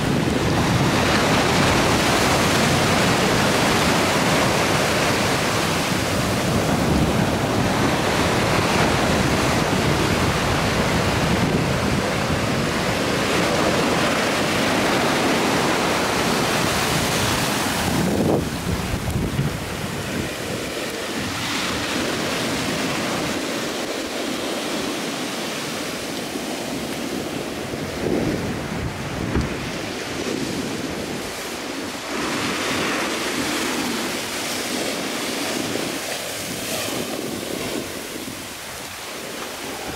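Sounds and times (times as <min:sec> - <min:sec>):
ocean surf washing on beach: 0:00.0 - 0:39.9
wind buffeting microphone: 0:00.0 - 0:39.9.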